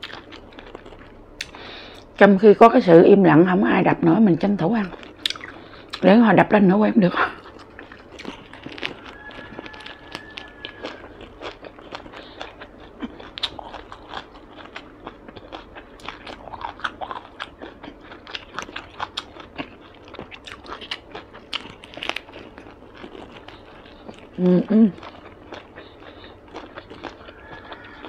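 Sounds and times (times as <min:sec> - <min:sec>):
close chewing and biting: 0:00.0 - 0:02.2, 0:04.8 - 0:06.1, 0:07.3 - 0:28.0.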